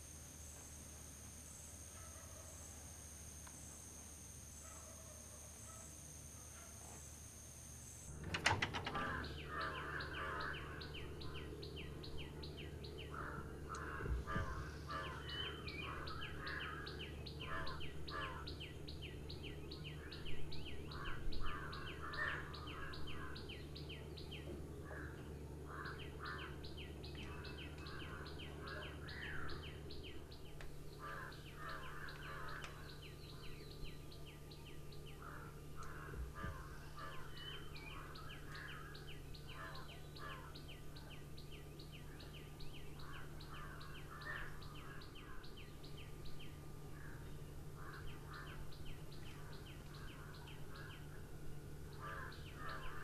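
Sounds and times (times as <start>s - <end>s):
steady low hum: 0.0s - 53.0s
birds chirping: 8.1s - 53.0s.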